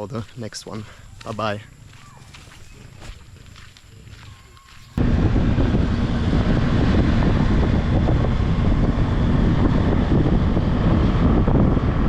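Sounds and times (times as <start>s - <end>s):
wind buffeting microphone: 1.1s - 12.0s.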